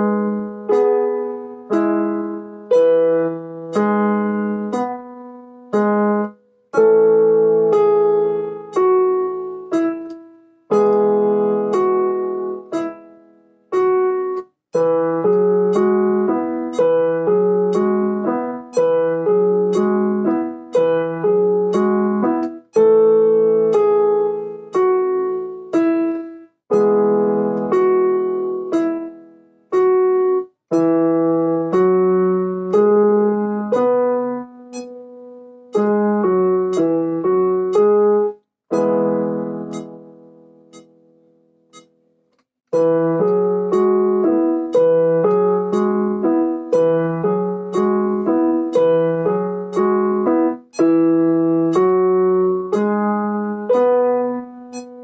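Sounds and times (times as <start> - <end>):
solo piano chords and melody: 0.0 - 55.0.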